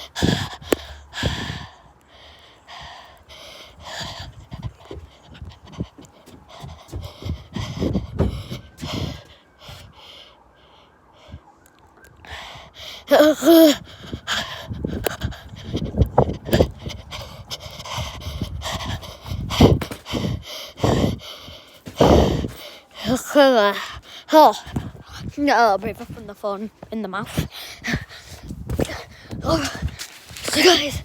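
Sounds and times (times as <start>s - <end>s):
rapid panting breaths: 0.0s - 11.6s, 12.2s - 31.0s.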